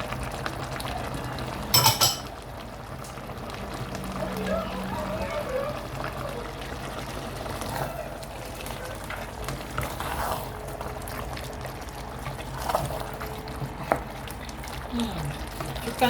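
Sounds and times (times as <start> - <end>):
soup bubbling in a pot: 0.0 - 16.0.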